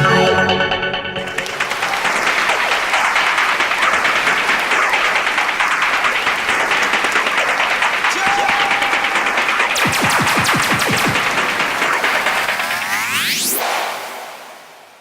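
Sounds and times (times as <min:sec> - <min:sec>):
audience clapping: 0:01.2 - 0:13.6.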